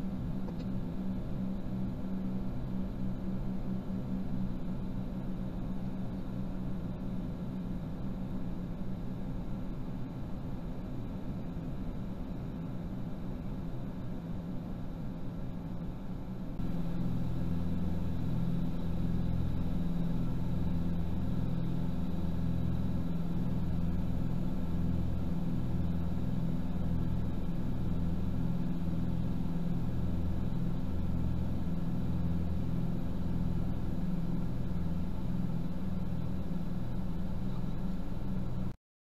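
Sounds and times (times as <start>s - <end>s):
propeller plane engines droning: 0.0s - 38.8s.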